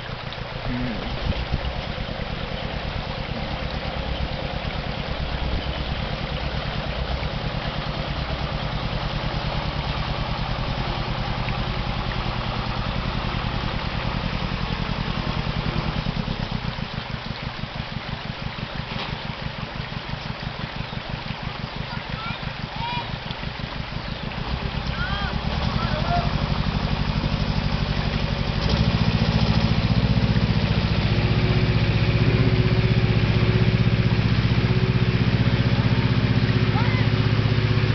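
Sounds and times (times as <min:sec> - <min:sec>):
river water rushing: 0:00.0 - 0:37.9
truck engine pulsing at low revs: 0:00.0 - 0:37.9.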